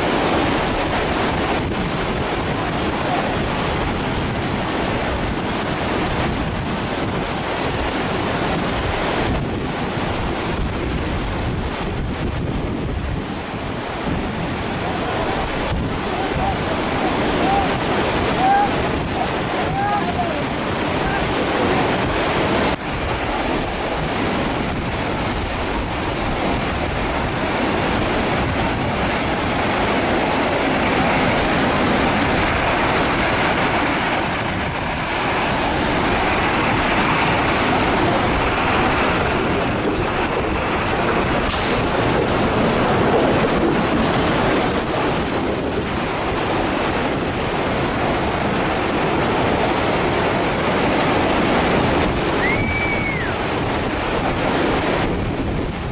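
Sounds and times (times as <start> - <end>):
mountain stream rushing: 0.0 - 55.9.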